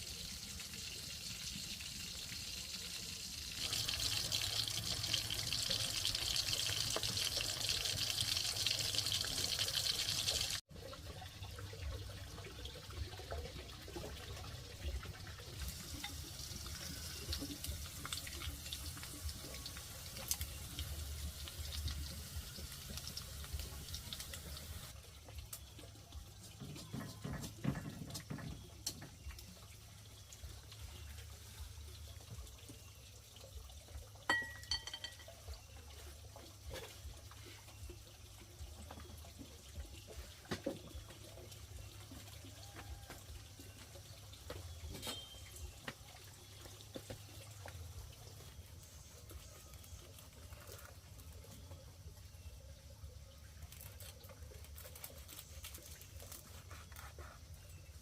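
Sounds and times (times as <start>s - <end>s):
water running: 0.0s - 52.3s
water trickling and splashing: 0.0s - 58.0s.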